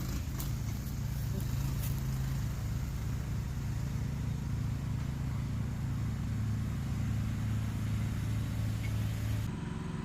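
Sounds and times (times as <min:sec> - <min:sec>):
engine running: 0:00.0 - 0:10.0.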